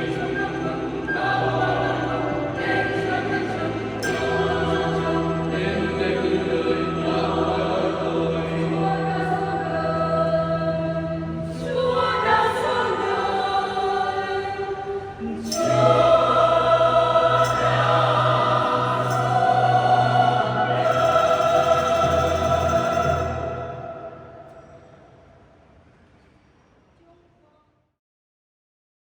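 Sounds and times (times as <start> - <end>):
choir singing a carol: 0.0 - 25.2.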